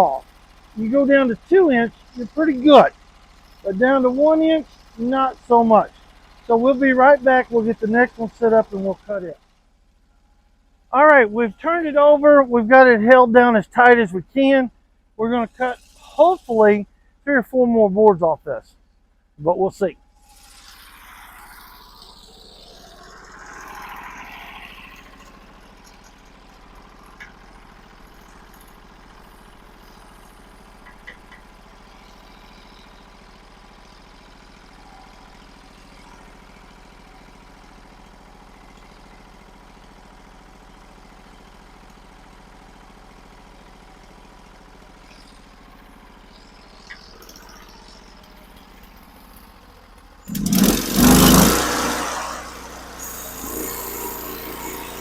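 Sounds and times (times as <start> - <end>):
sawmill engine running: 0.0 - 18.6, 19.4 - 55.0.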